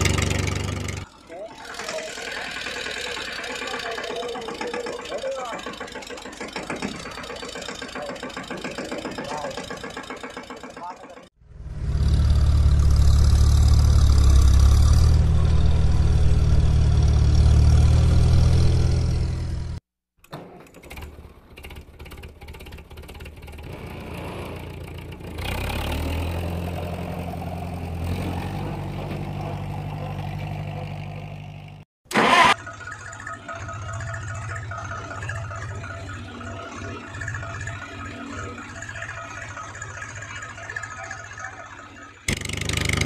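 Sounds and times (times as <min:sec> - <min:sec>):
tractor engine running: 0:00.0 - 0:19.8, 0:20.6 - 0:43.0.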